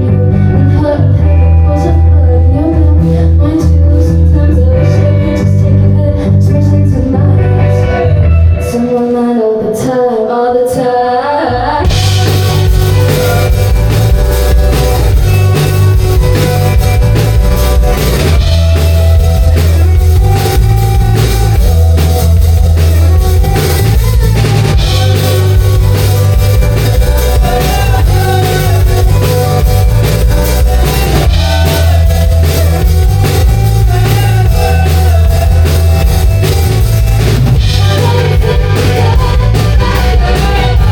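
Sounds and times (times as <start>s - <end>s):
live rock band playing: 0.0s - 9.4s, 11.8s - 40.9s
bending guitar melody: 0.0s - 9.6s, 11.8s - 40.9s.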